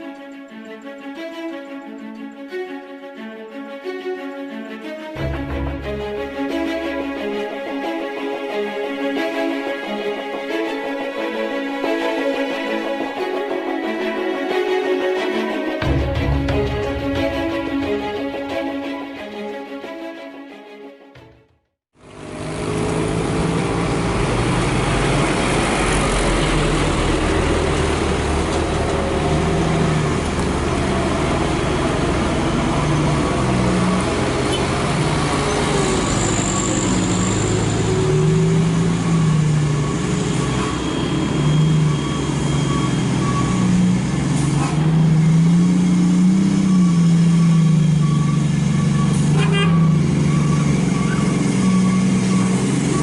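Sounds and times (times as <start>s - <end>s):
heavy truck diesel engine labouring: 5.2s - 19.1s, 22.0s - 53.0s.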